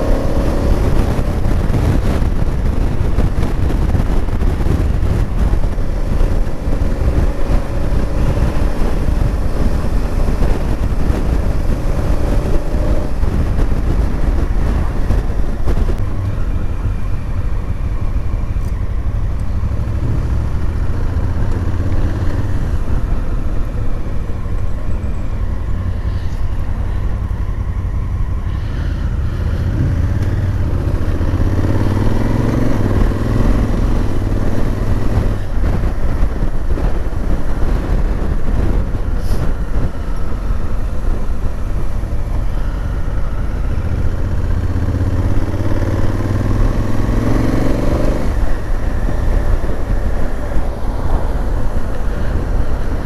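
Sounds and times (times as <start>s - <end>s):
motorcycle engine revving: 0.0s - 17.0s, 26.8s - 53.0s
road and wind noise: 0.0s - 53.0s.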